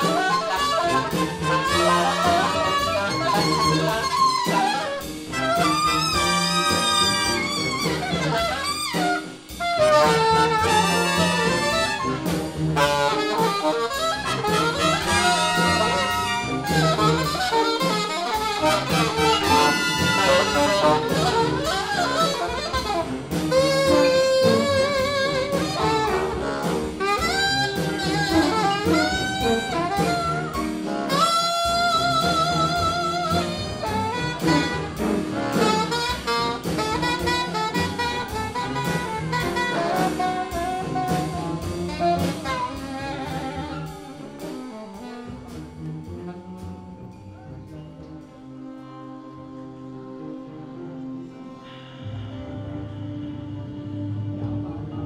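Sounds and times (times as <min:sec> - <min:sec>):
jazz band accompaniment: 0:00.0 - 0:55.0
jazz horn melody: 0:00.0 - 0:55.0.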